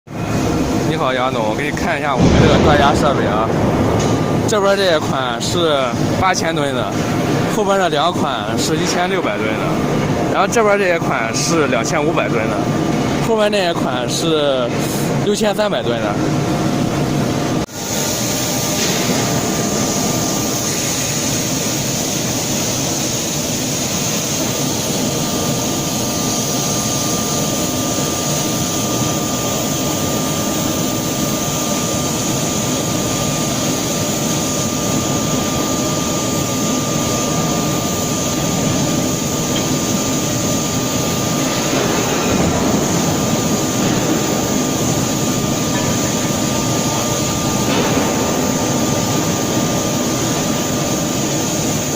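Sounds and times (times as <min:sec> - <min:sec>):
heavy machinery roar: 0:00.1 - 0:10.6, 0:16.2 - 0:51.9
thin steady whine: 0:00.1 - 0:51.9.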